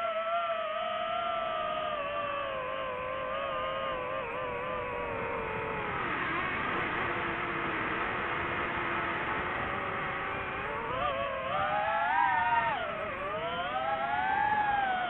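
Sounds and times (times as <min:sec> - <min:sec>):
drone propeller motors whining: 0:00.9 - 0:15.0.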